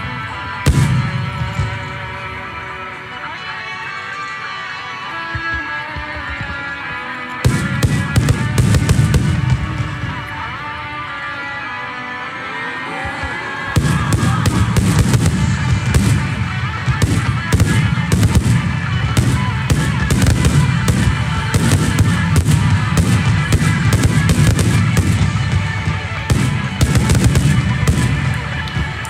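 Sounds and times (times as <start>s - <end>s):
fireworks booming and crackling: 0.0s - 2.9s, 5.4s - 10.9s, 13.6s - 29.0s
faint music: 0.0s - 29.0s.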